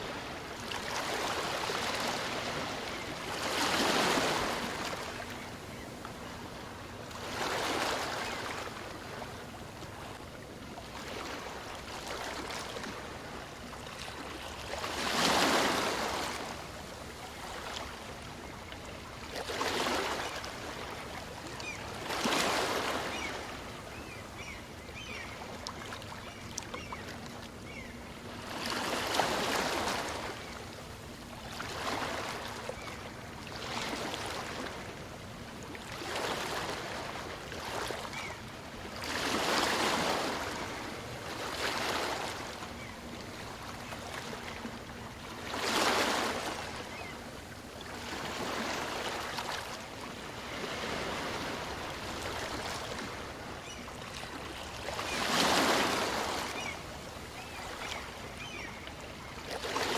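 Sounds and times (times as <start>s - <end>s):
small waves breaking on beach: 0.0s - 10.2s, 10.8s - 27.1s, 27.7s - 59.9s.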